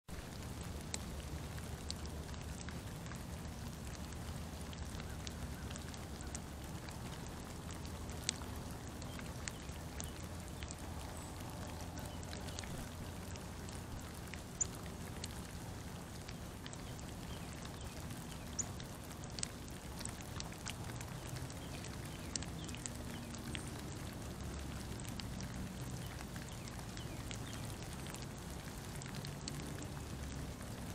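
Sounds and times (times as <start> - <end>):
light rain hiss: 0.1 - 30.9
water drops ticking: 0.2 - 30.9.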